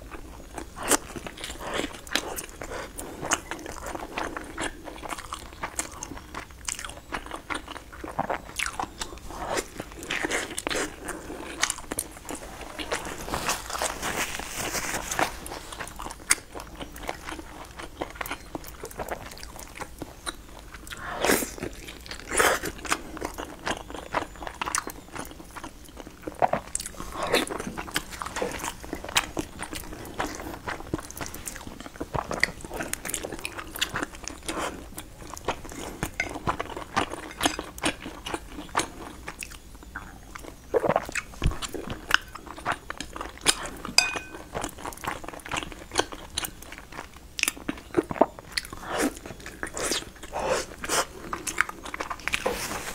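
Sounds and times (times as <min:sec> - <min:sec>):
person chewing and biting: 0:00.1 - 0:52.9.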